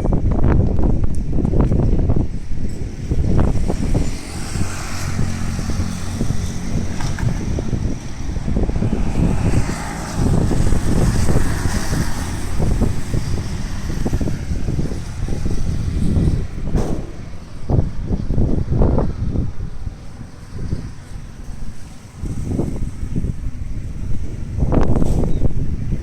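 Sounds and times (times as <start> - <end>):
wind buffeting microphone: 0.0 - 26.0
wind rushing hiss: 1.6 - 25.6.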